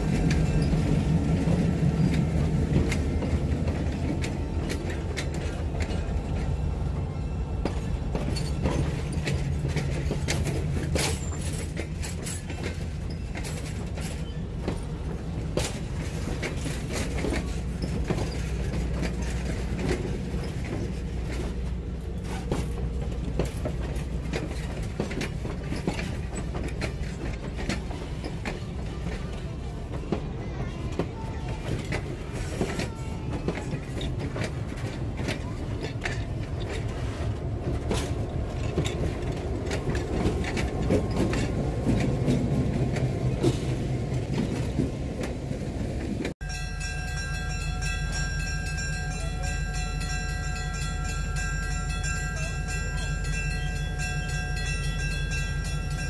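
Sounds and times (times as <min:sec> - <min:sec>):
diesel locomotive engine hum: 0:00.0 - 0:56.0
train wheels clicking and creaking: 0:00.0 - 0:56.0.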